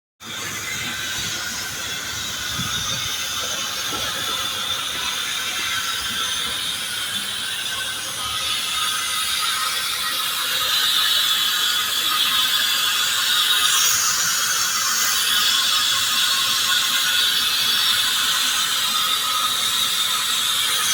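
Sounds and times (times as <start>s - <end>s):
steam hissing from street vent: 0.2s - 20.9s.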